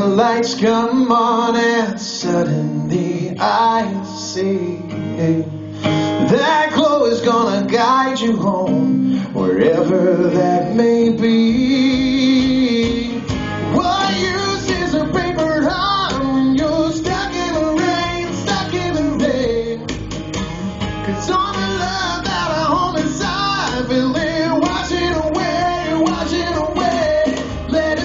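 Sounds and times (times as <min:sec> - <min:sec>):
man singing: 0:00.0 - 0:20.1, 0:21.0 - 0:28.0
strummed acoustic guitar: 0:00.0 - 0:28.0
electric bass guitar: 0:02.2 - 0:28.0.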